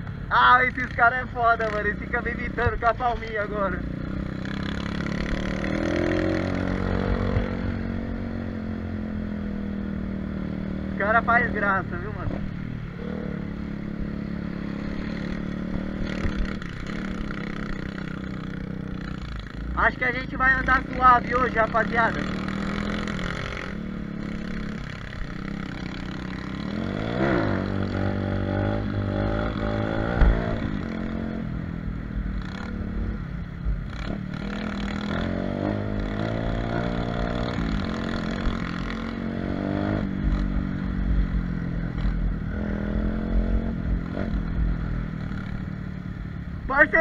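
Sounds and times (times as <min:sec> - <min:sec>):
pit bike engine revving: 0:00.6 - 0:31.7, 0:32.3 - 0:33.2, 0:33.8 - 0:45.8.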